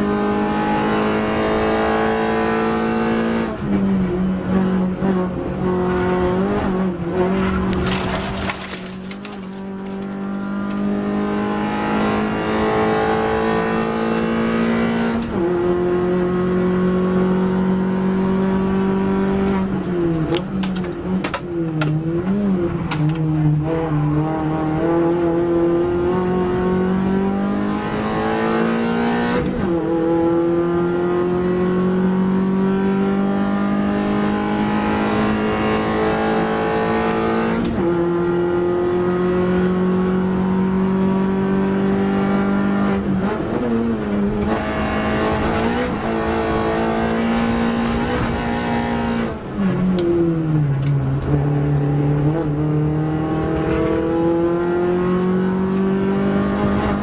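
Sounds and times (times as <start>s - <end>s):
race car engine pulling hard: 0.0s - 57.0s.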